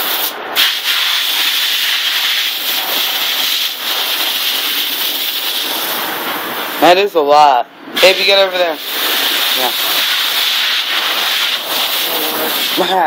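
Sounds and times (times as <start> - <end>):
garden hose spraying water: 0.0 - 6.0, 8.0 - 13.0.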